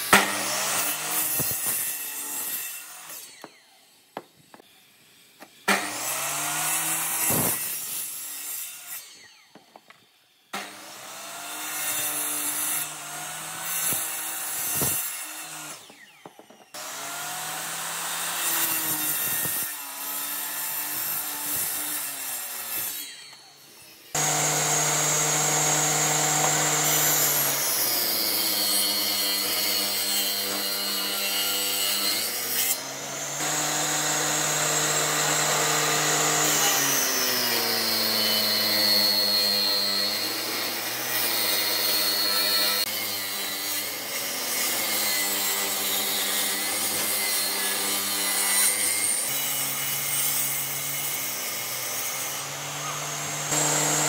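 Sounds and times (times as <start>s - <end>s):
power saw cutting timber: 0.0s - 54.0s
table saw cutting wood: 0.0s - 54.0s.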